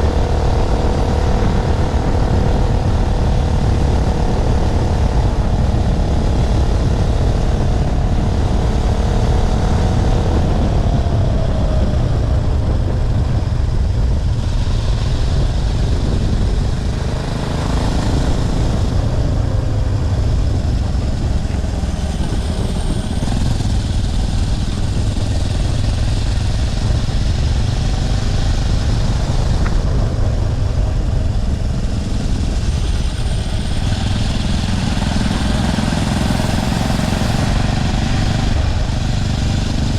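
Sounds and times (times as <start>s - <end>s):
motorbike engine running: 0.0s - 39.9s
wind rush on microphone: 0.0s - 39.9s.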